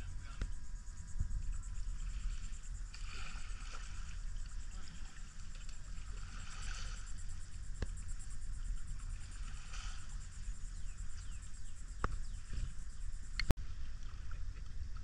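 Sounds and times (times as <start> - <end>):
faint high insect trill: 0.0 - 15.0
wind rumble on microphone: 0.0 - 15.0.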